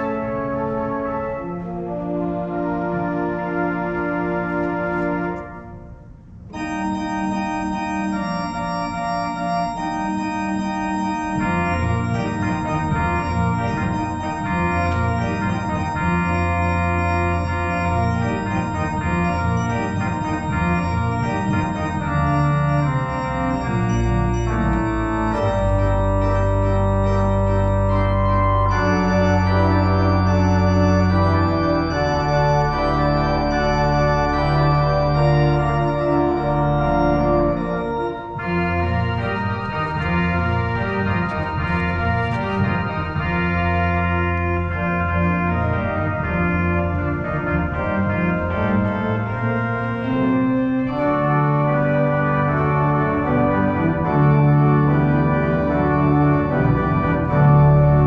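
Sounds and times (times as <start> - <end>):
church organ playing a jig: 0.0 - 58.0.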